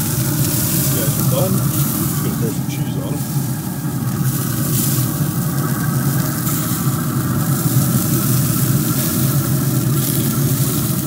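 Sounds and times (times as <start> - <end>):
high hiss: 0.0 - 10.7
grill fan humming: 0.0 - 11.0.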